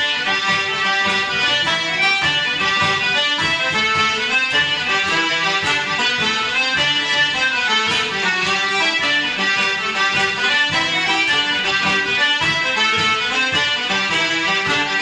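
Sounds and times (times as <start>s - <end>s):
banjo: 0.0s - 15.0s
button accordions and concertina: 0.0s - 15.0s
frame drum and cajon beat: 0.0s - 15.0s.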